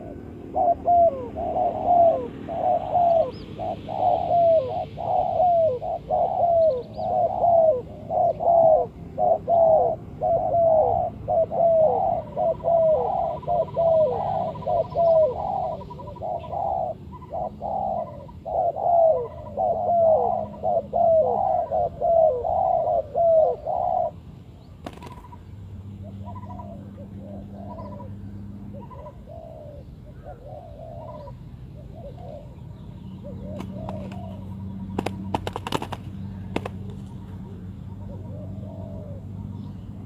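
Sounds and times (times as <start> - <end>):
dove cooing: 0.0 - 24.2, 24.8 - 25.4, 26.0 - 40.0.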